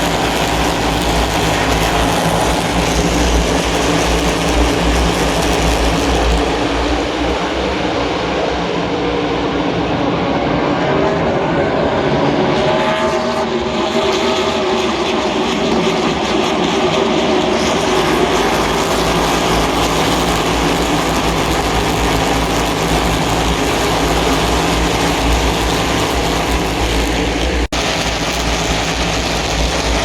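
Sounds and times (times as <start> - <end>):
race car engines roaring: 0.0 - 30.0.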